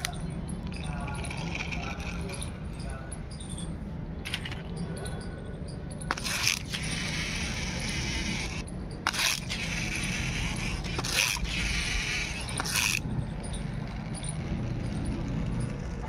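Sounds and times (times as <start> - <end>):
toy spring motor rasping whirr: 0.0 - 16.0.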